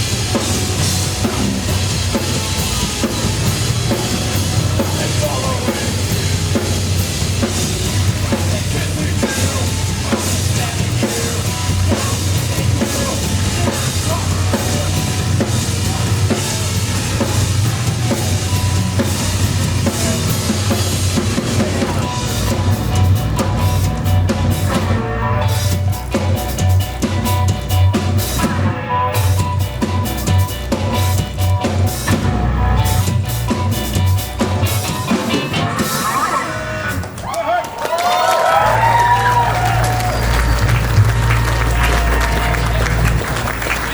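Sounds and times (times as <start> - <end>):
drum kit: 0.0 - 43.9
live band playing loudly: 0.0 - 43.9.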